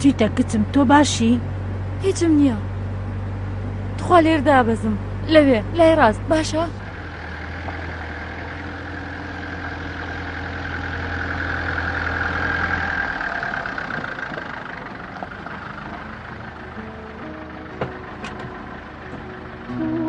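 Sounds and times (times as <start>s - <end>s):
minibus driving past: 0.0s - 20.0s.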